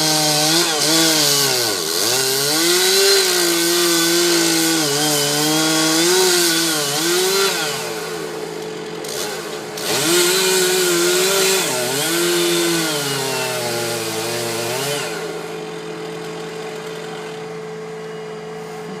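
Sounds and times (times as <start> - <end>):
chainsaw revving under load: 0.0 - 18.4.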